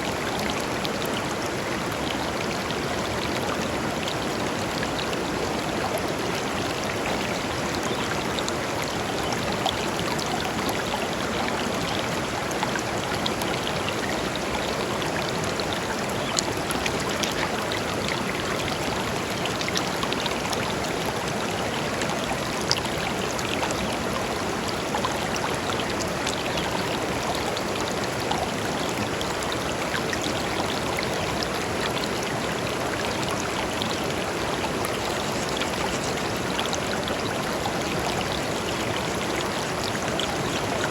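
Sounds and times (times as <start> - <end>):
shallow river flowing over stones: 0.0 - 40.9.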